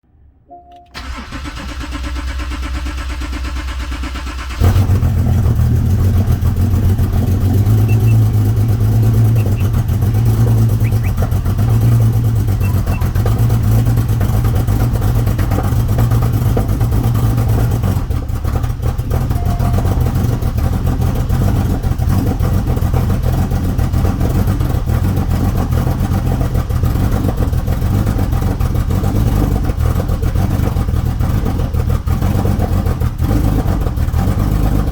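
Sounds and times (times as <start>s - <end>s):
car engine starting: 0.5s - 34.9s
engine idling roughly: 1.0s - 34.9s.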